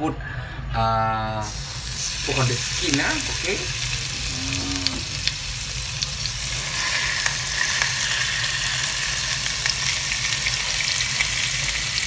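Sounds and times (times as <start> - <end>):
low steady hum: 0.0 - 12.0
fish sizzling in frying pan: 1.5 - 12.0.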